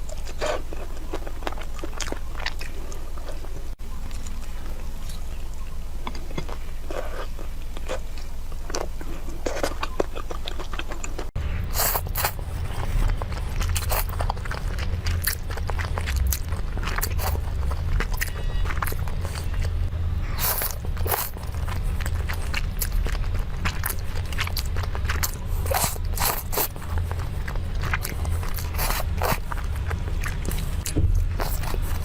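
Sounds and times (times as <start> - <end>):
chewing crunchy food: 0.0 - 32.0
low hum: 0.0 - 32.0.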